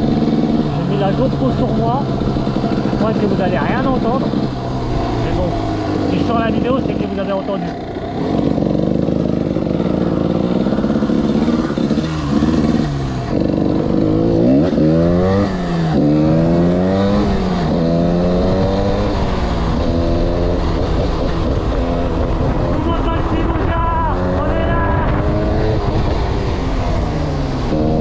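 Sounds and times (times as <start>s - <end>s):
two-stroke motorcycle engine revving: 0.0s - 28.0s.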